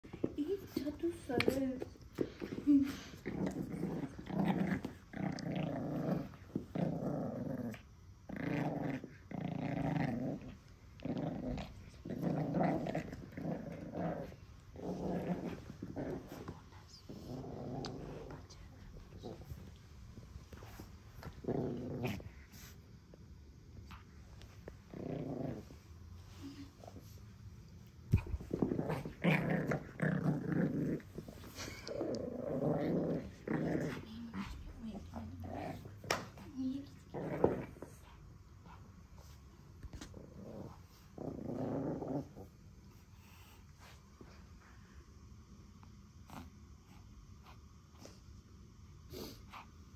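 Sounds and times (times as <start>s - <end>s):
puppy growling: 0.1s - 19.8s, 20.5s - 22.8s, 23.8s - 27.2s, 27.8s - 43.6s.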